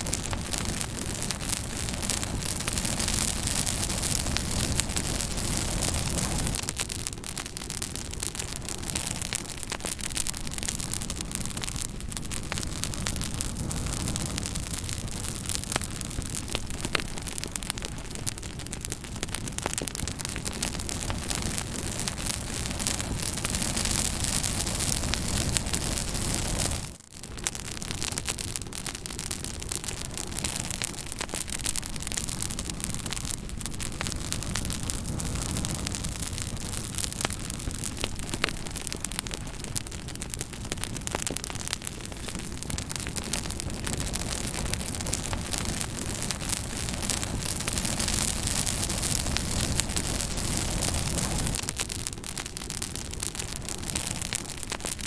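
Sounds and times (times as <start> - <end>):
steady fire hiss: 0.0 - 55.0
wood fire crackling: 0.0 - 55.0.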